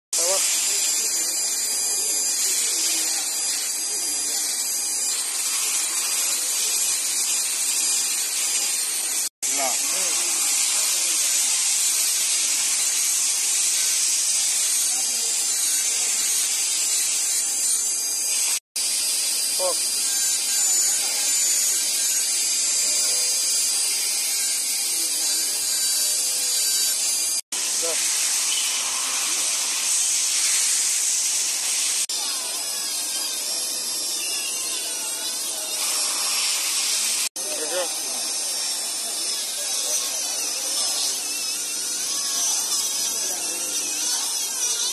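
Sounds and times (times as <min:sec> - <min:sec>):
machinery whine and hiss: 0:00.2 - 0:44.9
rotary tool grinding metal: 0:00.2 - 0:44.9.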